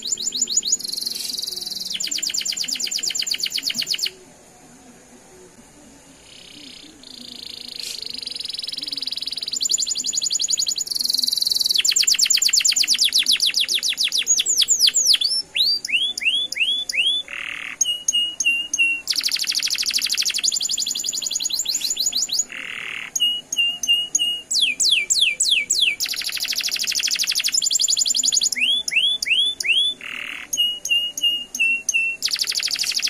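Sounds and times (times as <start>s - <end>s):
canary singing trills: 0.0s - 4.2s, 6.1s - 33.0s.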